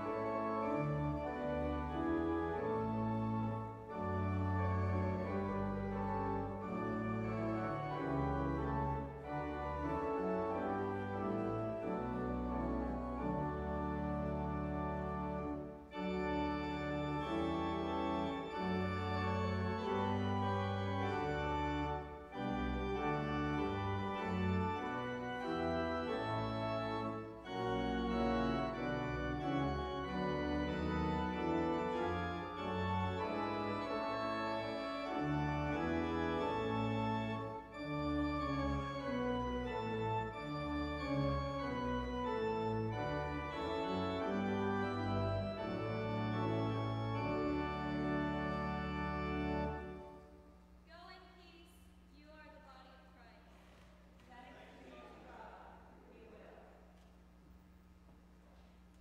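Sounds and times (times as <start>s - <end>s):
church organ chords: 0.0s - 50.8s.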